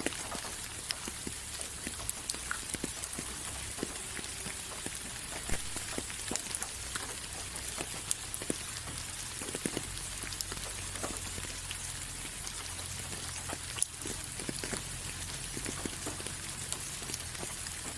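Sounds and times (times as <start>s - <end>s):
raindrops tapping: 0.0s - 17.9s
steady rain hiss: 0.0s - 17.9s.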